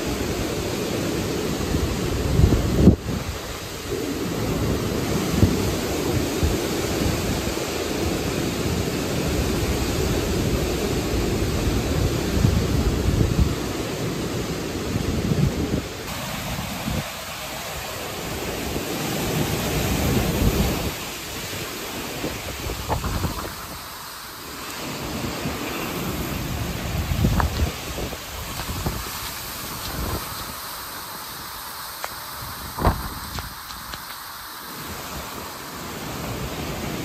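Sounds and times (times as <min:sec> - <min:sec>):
wind buffeting microphone: 0:00.0 - 0:24.1, 0:24.7 - 0:34.2
torrential rain hiss: 0:00.0 - 0:37.0
wind through trees: 0:00.0 - 0:37.0.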